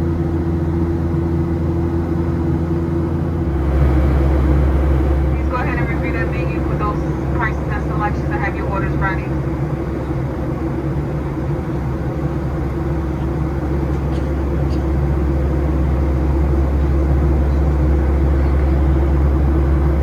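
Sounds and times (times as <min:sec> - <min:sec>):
aircraft engine hum: 0:00.0 - 0:20.0.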